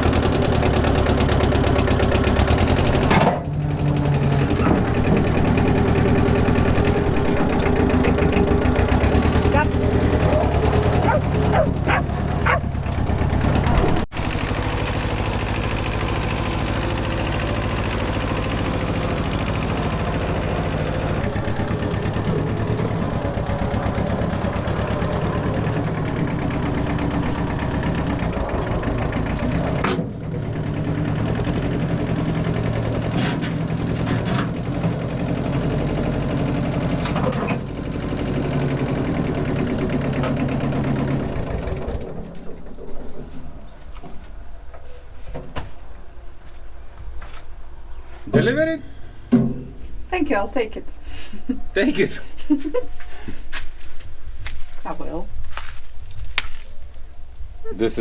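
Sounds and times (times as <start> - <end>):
heavy engine rumbling at low revs: 0.0 - 58.0.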